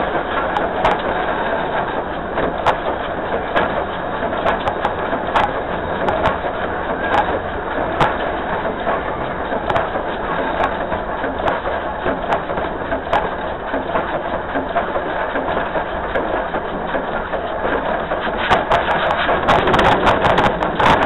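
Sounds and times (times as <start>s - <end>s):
sharp clicks and rattles: 0.0s - 21.0s
train wheels rumbling on rail: 0.0s - 21.0s.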